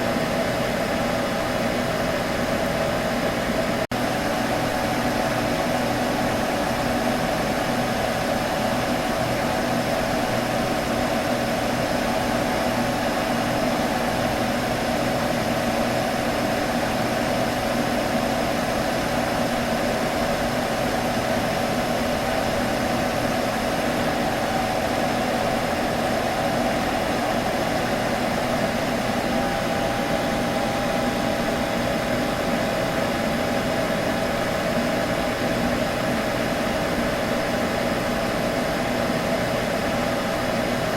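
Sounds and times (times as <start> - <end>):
computer humming: 0.0 - 40.9.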